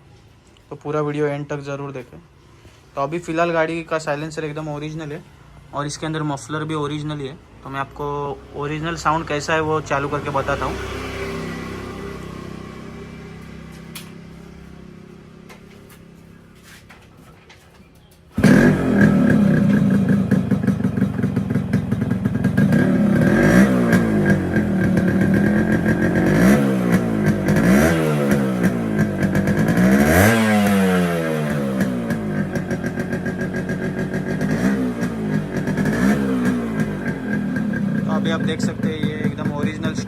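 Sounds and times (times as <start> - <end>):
motorcycle engine idling and revving: 3.4 - 17.2, 17.9 - 40.0.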